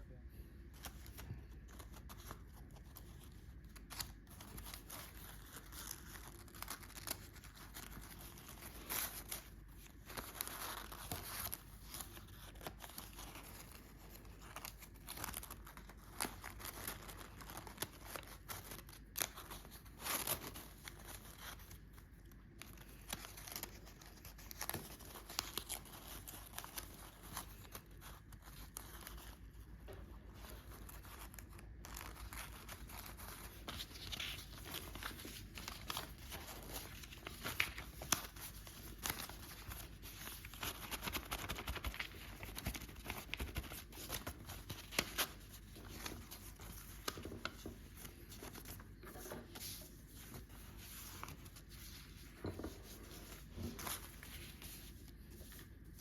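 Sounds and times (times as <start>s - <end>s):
paper rustling and crinkling: 0.6s - 56.0s.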